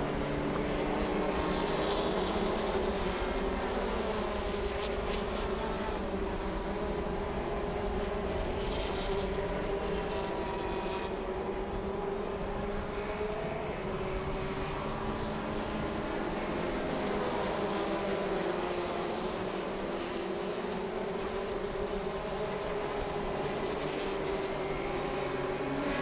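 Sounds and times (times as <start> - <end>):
race car engines high-revving: 0.0 - 26.0.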